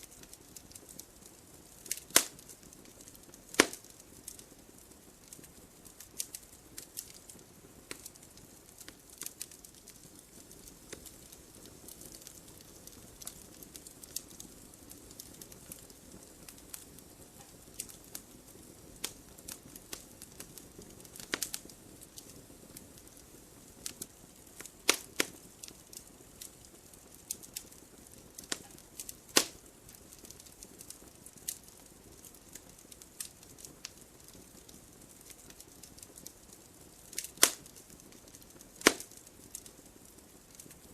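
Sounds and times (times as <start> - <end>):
campfire crackling: 0.0 - 40.9
flame rushing: 0.1 - 40.8.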